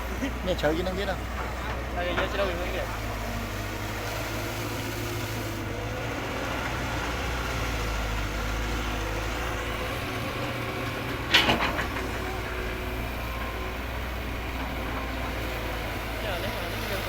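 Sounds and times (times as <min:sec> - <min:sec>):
model excavator motors humming: 0:00.0 - 0:17.0.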